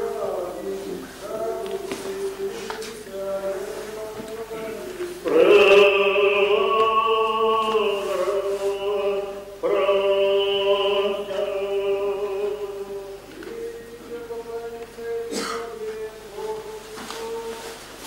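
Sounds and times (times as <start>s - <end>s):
chanting in long held notes: 0.0s - 17.8s.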